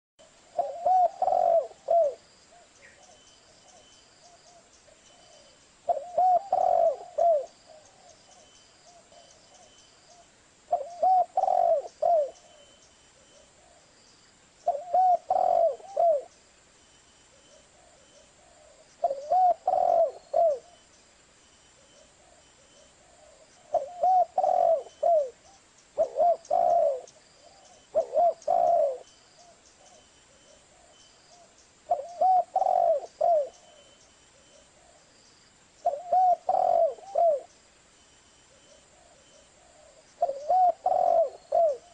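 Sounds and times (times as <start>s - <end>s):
dove cooing: 0.2s - 13.8s, 14.6s - 16.4s, 17.3s - 20.8s, 21.8s - 35.1s, 35.8s - 37.6s, 38.5s - 41.9s.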